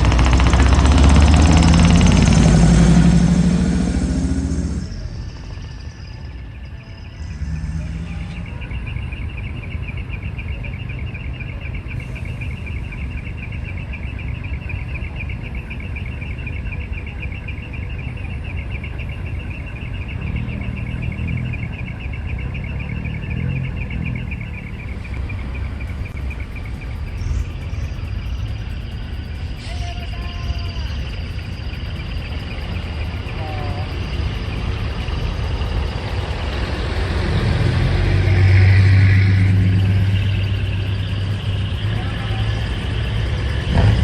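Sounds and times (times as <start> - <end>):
insects trilling: 0.0 - 44.0
truck engine idling: 0.0 - 44.0.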